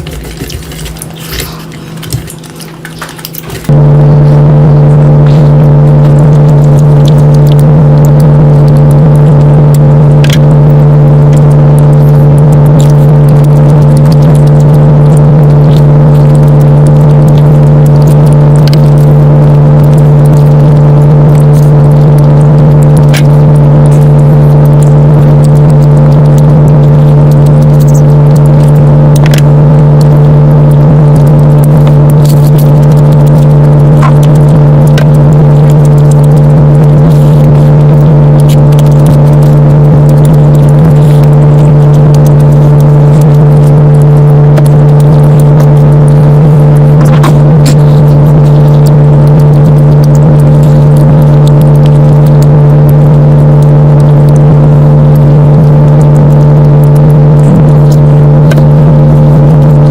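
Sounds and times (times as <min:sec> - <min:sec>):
loud low hum: 0:00.0 - 0:59.9.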